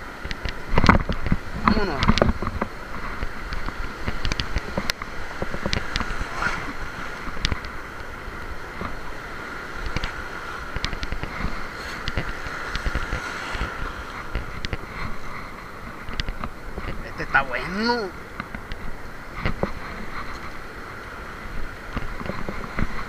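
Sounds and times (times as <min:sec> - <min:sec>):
surf washing over rocks: 0:00.0 - 0:23.0
wind on microphone: 0:00.0 - 0:23.0.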